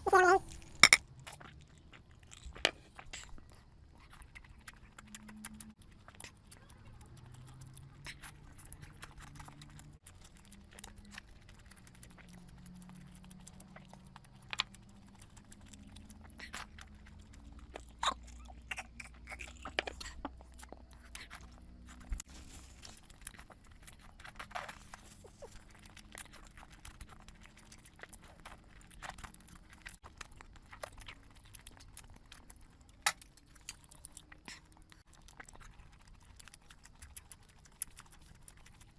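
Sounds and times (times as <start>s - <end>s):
chewing with mouth clicks: 0.0s - 38.9s.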